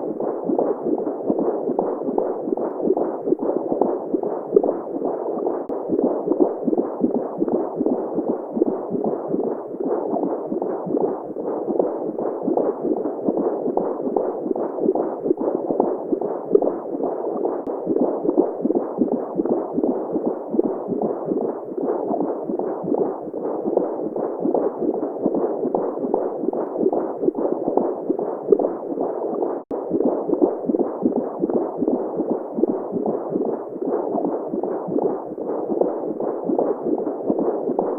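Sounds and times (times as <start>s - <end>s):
heartbeat: 0.0s - 37.9s.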